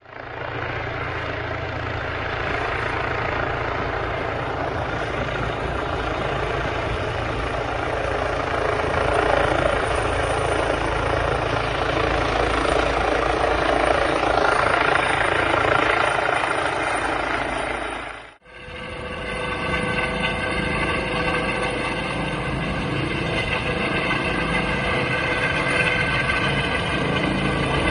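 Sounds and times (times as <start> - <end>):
helicopter rotor and turbine: 0.0 - 27.9.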